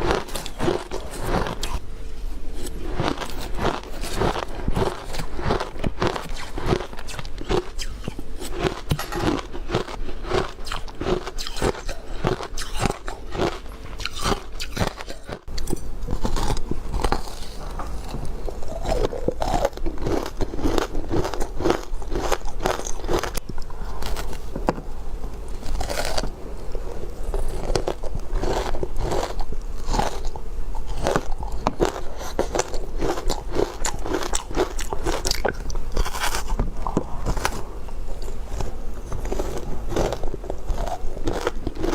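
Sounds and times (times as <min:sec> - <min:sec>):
ice crunching between teeth: 0:00.0 - 0:01.8, 0:02.6 - 0:24.4, 0:25.6 - 0:26.3, 0:27.2 - 0:41.9.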